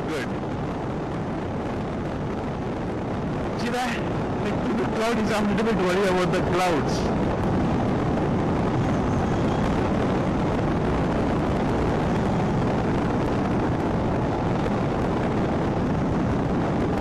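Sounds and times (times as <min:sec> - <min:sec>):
motorcycle engine and road noise: 0:00.0 - 0:17.0
wind rush: 0:00.0 - 0:17.0.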